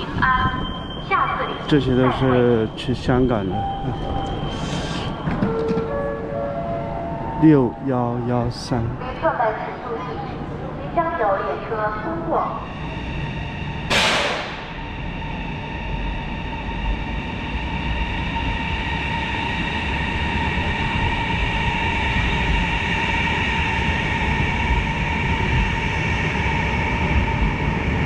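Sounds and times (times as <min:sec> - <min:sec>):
train passing with whoosh: 0:00.0 - 0:11.1, 0:11.7 - 0:28.0
train rumble with high whine: 0:00.0 - 0:28.0.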